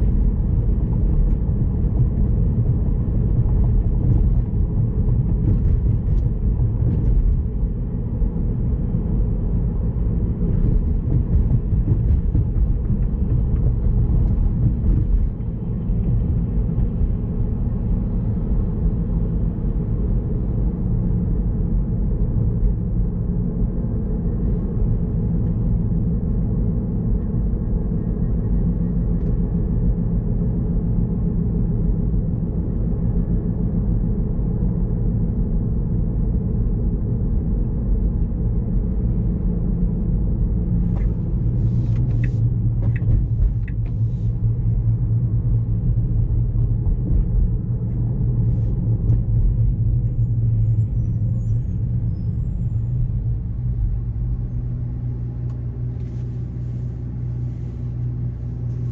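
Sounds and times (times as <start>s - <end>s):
road and tyre rumble: 0.0s - 58.9s.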